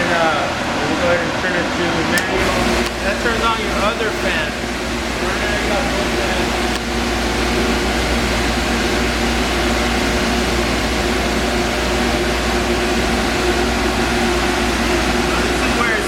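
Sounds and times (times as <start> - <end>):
dehumidifier fans blowing: 0.0 - 16.0.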